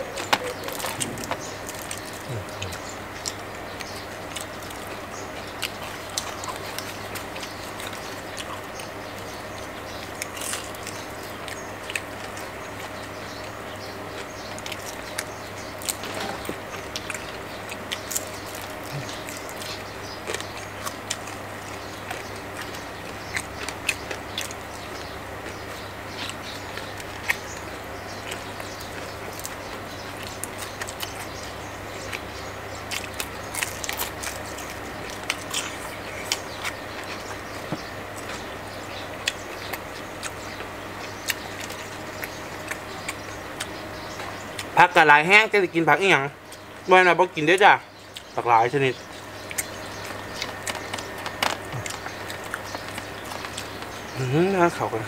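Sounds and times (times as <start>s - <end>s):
crunchy chewing: 0.0s - 44.8s, 47.8s - 55.0s
steady background hum: 0.0s - 55.0s.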